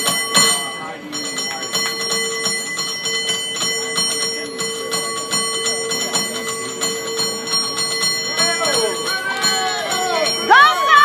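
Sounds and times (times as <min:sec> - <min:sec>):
cable car bell ringing: 0:00.0 - 0:11.0.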